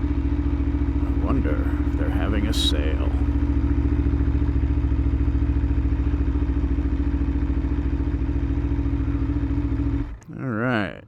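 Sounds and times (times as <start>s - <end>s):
motorcycle engine idling: 0.0s - 10.2s.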